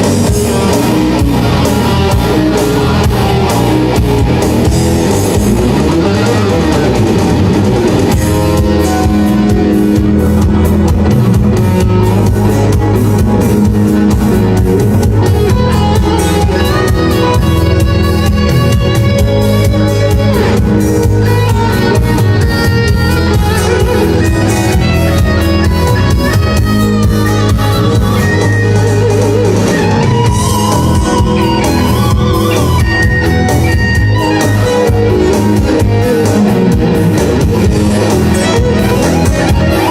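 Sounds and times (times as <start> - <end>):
drum kit: 0.0 - 39.9
electric guitar lead: 0.0 - 39.9.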